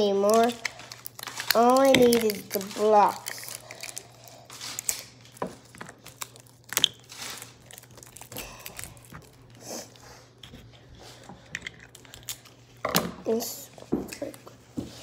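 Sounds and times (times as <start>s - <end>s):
paper and tape crinkling: 0.0s - 15.0s.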